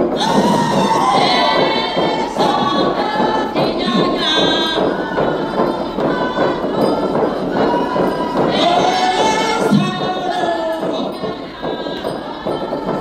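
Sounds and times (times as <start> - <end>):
men chanting and hollering: 0.1 - 13.0.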